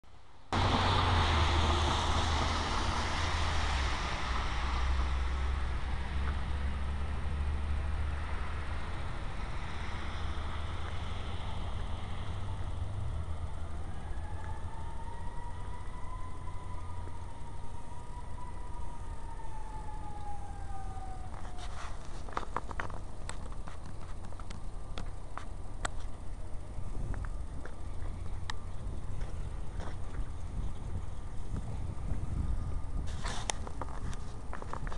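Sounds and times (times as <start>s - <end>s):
road traffic rumble: 0.1s - 34.9s
distant siren: 0.6s - 34.9s.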